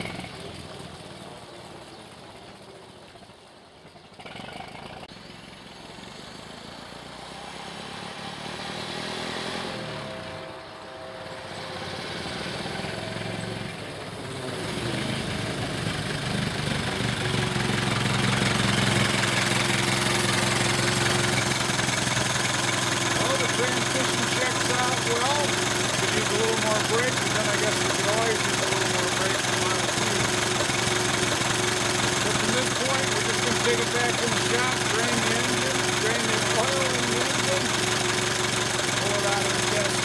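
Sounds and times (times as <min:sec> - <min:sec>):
old car engine running: 0:00.0 - 0:07.1, 0:09.6 - 0:40.0.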